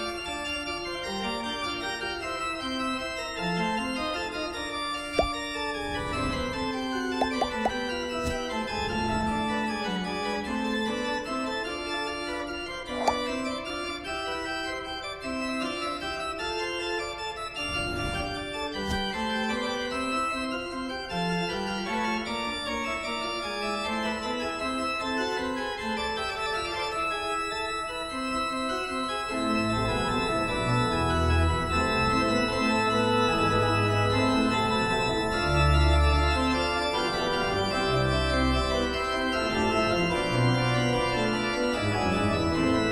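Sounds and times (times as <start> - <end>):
organ playing held chords: 0.0 - 42.9.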